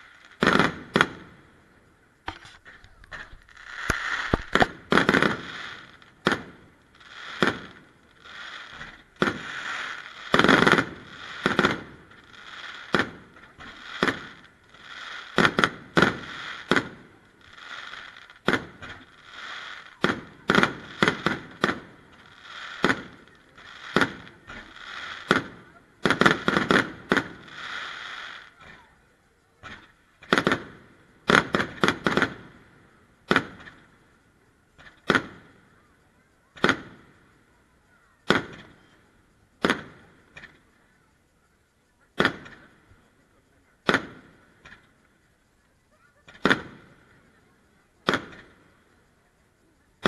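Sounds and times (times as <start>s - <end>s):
firework shells bursting with bangs: 0.0s - 1.5s, 2.1s - 40.9s, 42.0s - 50.0s
firework hiss: 0.0s - 50.0s.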